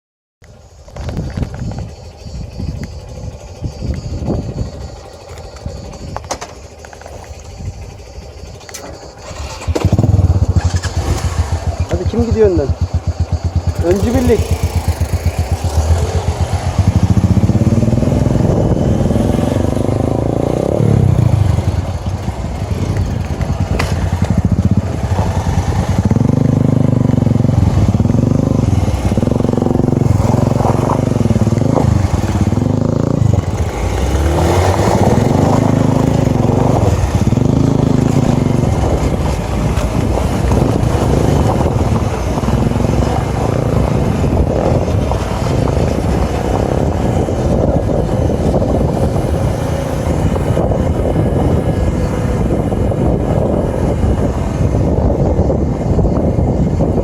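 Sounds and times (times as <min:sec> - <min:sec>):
small motorcycle engine revving: 0:00.6 - 0:57.0.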